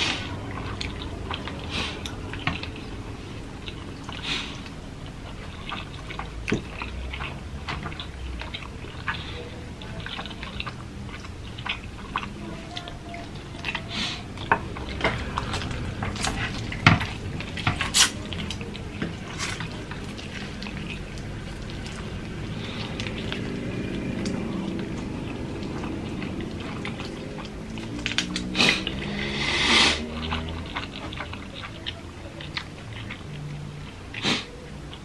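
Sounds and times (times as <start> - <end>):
noodles slurped and chewed: 0.0 - 35.0.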